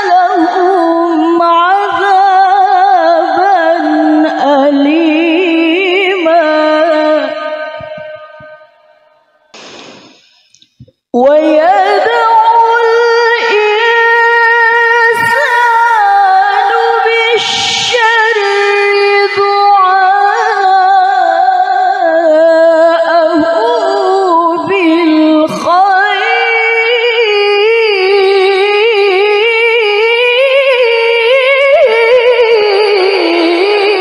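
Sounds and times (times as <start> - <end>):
woman chanting into a microphone: 0.0 - 8.7, 10.8 - 34.0.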